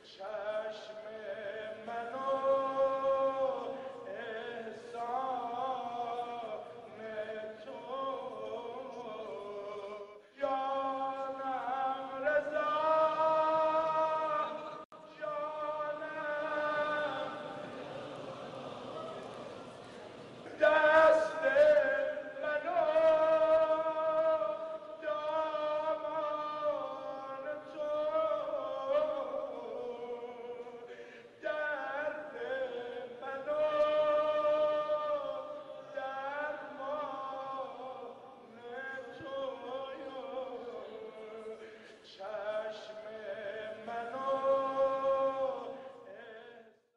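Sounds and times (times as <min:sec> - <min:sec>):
man singing devotional song: 0:00.0 - 0:19.4, 0:20.4 - 0:46.9.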